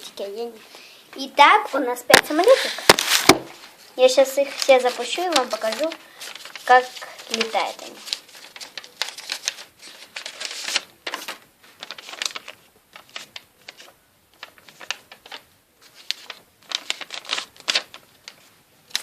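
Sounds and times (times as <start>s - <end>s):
paper rustling and crackling: 2.0s - 19.0s.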